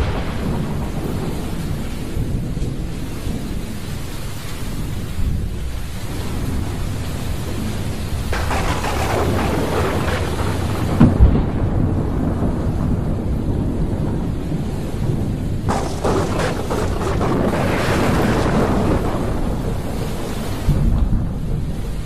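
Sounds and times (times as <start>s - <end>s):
sharp thunder cracks: 0.0s - 3.8s, 8.1s - 22.0s
rumbling thunder: 0.0s - 22.0s
steady rain: 0.0s - 22.0s.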